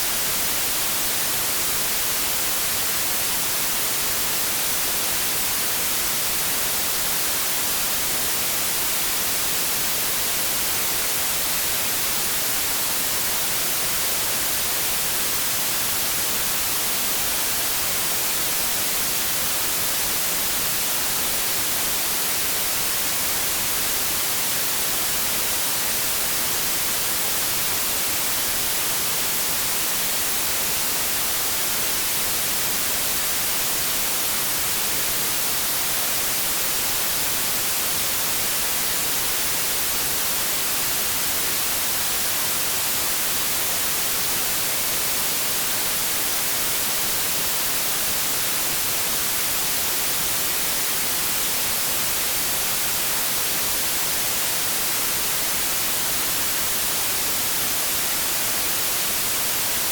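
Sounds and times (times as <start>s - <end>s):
white noise static hiss: 0.0s - 59.9s.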